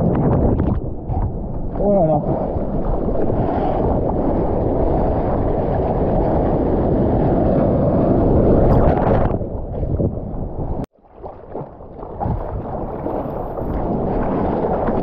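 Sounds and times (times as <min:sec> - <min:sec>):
water splashing over camera: 0:00.0 - 0:07.6, 0:08.2 - 0:15.0
sea water and wind rushing: 0:00.0 - 0:15.0.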